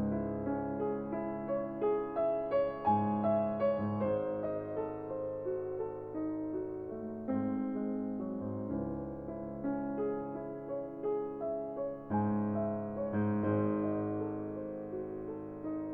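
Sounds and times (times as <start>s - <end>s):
soft piano music: 0.0s - 15.9s.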